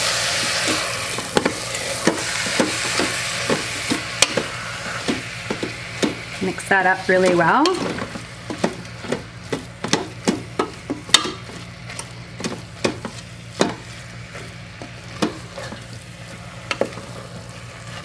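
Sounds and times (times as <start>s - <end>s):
butter sizzling: 0.0s - 18.0s.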